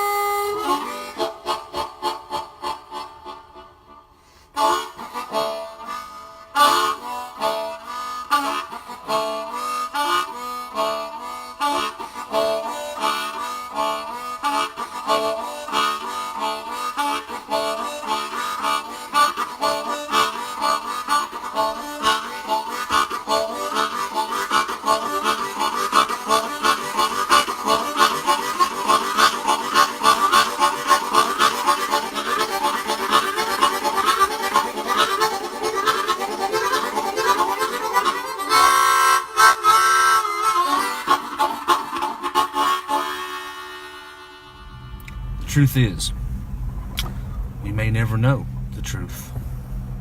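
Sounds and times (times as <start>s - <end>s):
blues harmonica playing: 0.0s - 46.0s.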